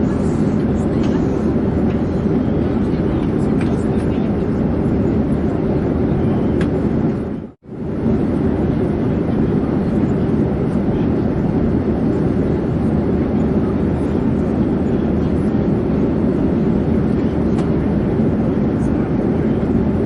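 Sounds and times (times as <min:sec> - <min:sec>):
airplane rumble in flight: 0:00.0 - 0:20.0.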